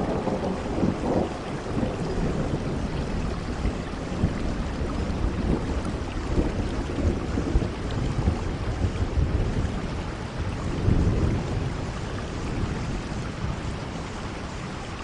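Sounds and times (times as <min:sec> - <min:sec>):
low rumble of thunder: 0:00.0 - 0:15.0
steady rain falling: 0:00.0 - 0:15.0.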